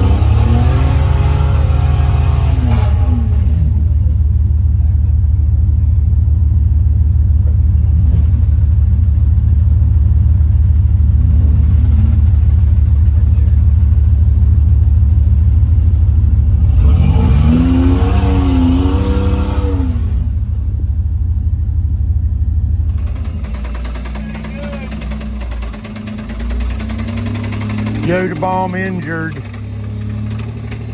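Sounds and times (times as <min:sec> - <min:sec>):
truck engine revving: 0:00.0 - 0:05.1, 0:07.4 - 0:20.7, 0:22.8 - 0:30.9.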